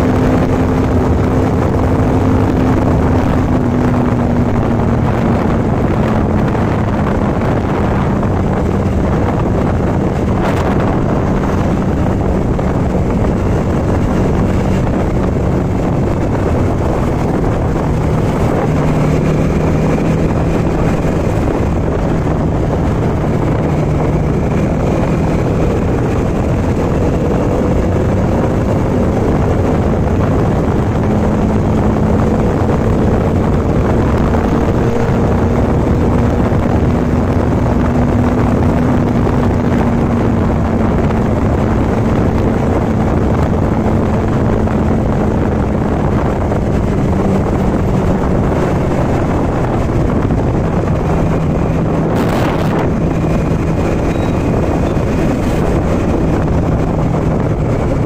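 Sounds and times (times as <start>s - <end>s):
motorcycle engine cruising: 0.0s - 58.0s
wind rush on microphone: 0.0s - 58.0s.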